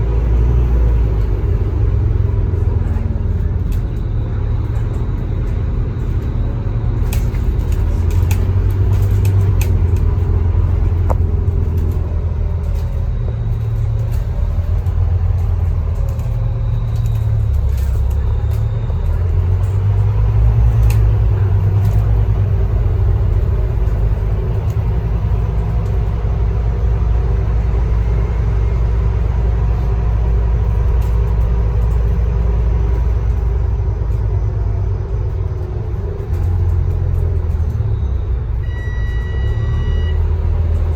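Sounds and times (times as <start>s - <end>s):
bus diesel engine rumbling: 0.0s - 40.9s.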